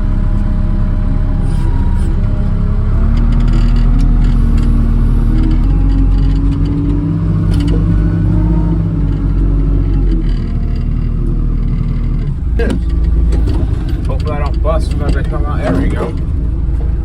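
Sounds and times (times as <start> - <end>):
sawmill engine running: 0.0 - 17.0.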